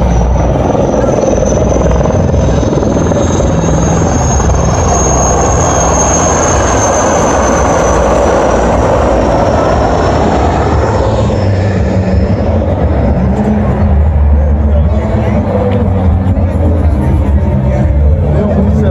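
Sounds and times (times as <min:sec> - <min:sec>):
helicopter rotor and engine rumble: 0:00.0 - 0:18.9
high turbine whine: 0:00.0 - 0:18.9.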